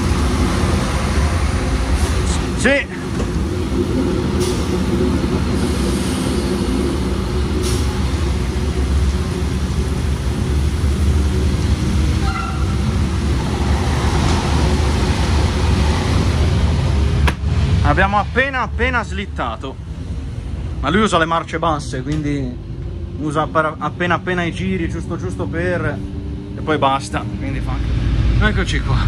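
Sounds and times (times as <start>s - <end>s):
diesel railcar engine droning: 0.0s - 29.0s.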